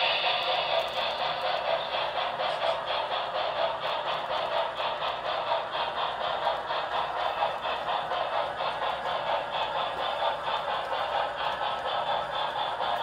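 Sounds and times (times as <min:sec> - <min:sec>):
model train wheels clicking: 0:00.0 - 0:13.0.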